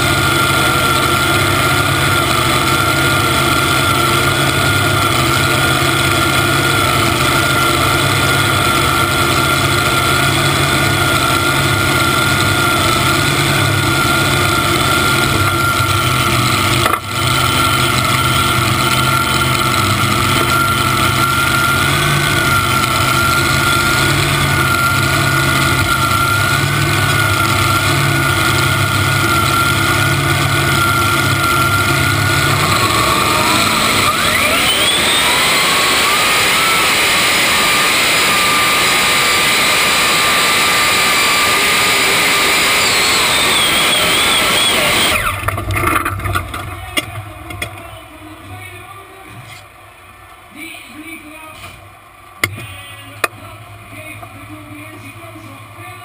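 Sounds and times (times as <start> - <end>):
engine idling: 0.0 - 56.0
supercharger whine: 0.0 - 56.0.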